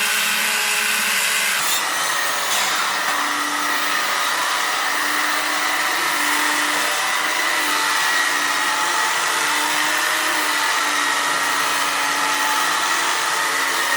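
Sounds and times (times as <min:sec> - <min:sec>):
electric power tool whirring: 0:00.0 - 0:13.9.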